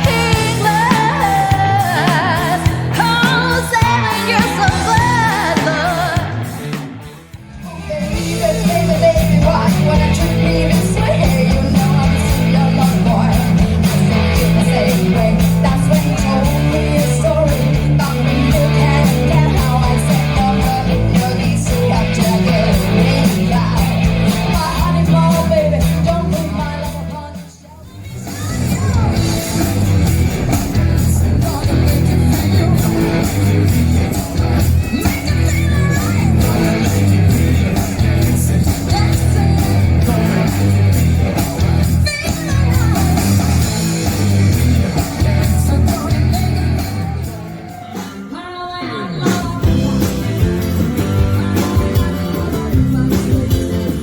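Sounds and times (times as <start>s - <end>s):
lead singer singing: 0.0s - 54.0s
rock and roll band playing: 0.0s - 54.0s.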